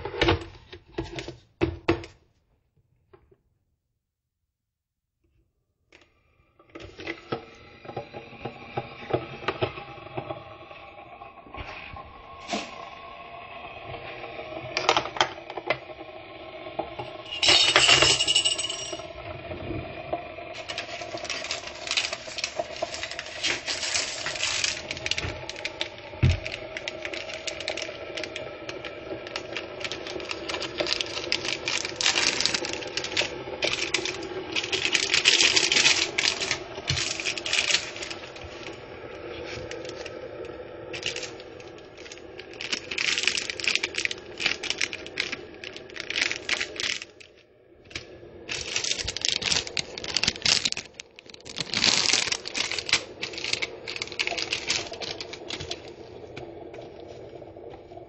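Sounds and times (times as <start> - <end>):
coffee machine hissing and sputtering: 6.1 - 58.0.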